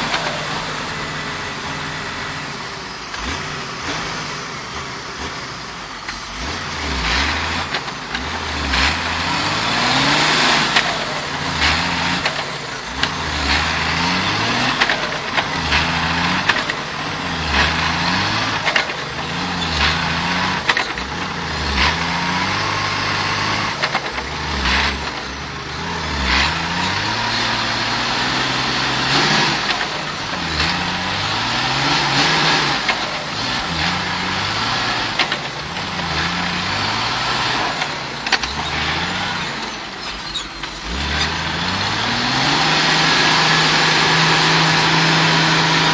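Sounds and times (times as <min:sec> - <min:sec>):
diesel truck engine under load: 0:00.0 - 0:45.9.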